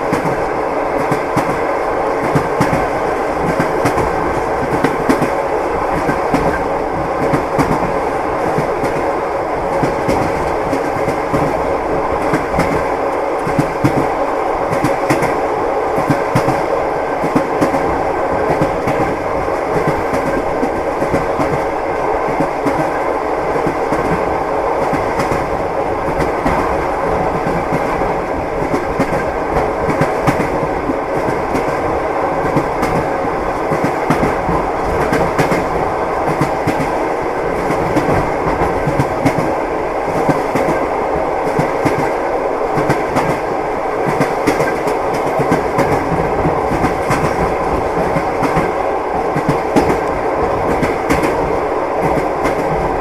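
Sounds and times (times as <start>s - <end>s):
train rumbling: 0.0s - 53.0s
train wheels clicking on rail joints: 0.0s - 53.0s.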